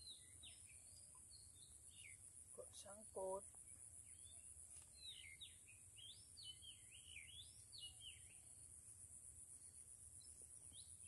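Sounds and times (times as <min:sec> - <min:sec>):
bird song: 0:00.0 - 0:11.0.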